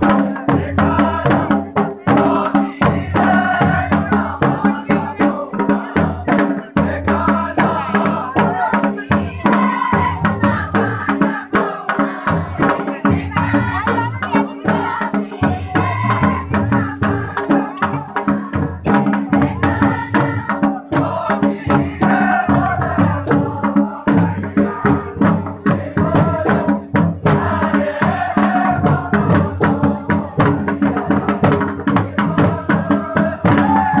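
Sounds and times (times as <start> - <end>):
drums beating quick rhythm: 0.0 - 34.0
group singing: 0.0 - 34.0.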